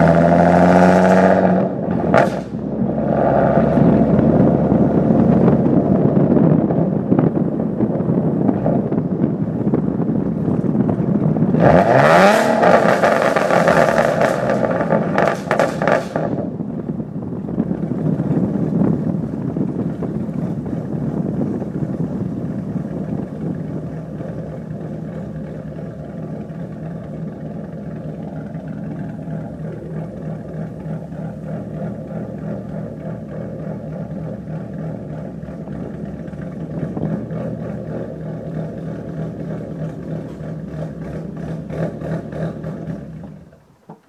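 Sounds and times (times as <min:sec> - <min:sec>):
car exhaust drone while driving: 0:00.0 - 0:44.0.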